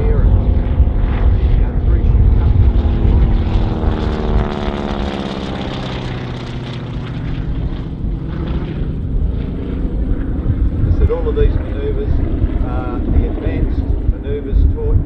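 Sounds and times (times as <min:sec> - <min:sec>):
propeller plane flying overhead: 0:00.0 - 0:15.0.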